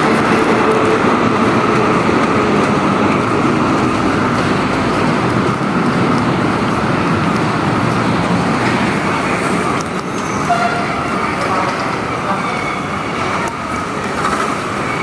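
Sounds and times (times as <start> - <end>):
rumble of moving vehicles: 0.0 - 15.0.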